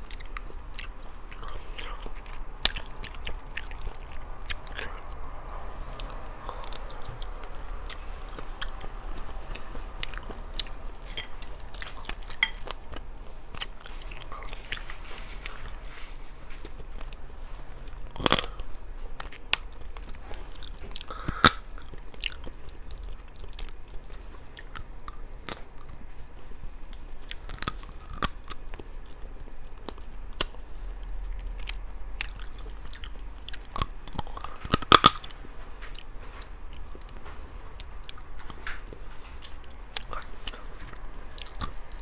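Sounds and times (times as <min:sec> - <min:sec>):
chewing shellfish with crunches: 0:00.0 - 0:42.0.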